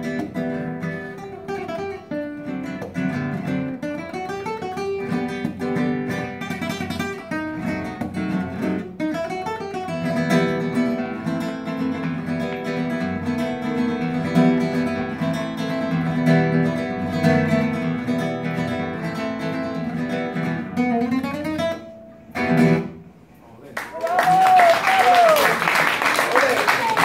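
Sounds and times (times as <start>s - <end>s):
flamenco classical guitar: 0.0s - 23.2s.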